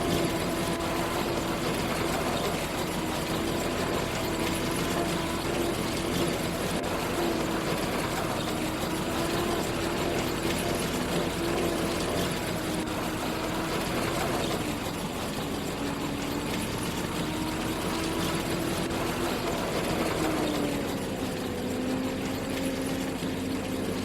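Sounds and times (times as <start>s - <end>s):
engine humming under load: 0.0s - 24.0s.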